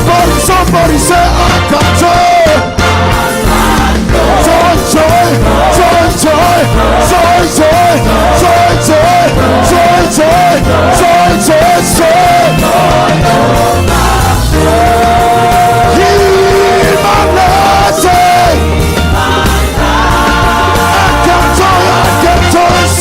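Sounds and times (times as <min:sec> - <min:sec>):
live worship band music: 0:00.0 - 0:23.0.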